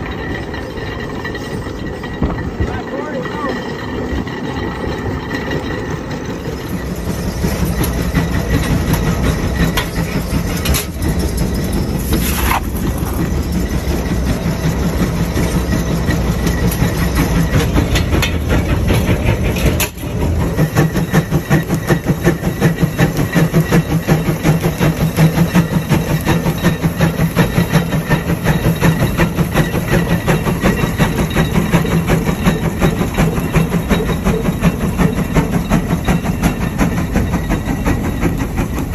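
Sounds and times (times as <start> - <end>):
steam engine exhaust chuffing: 0.0 - 38.9.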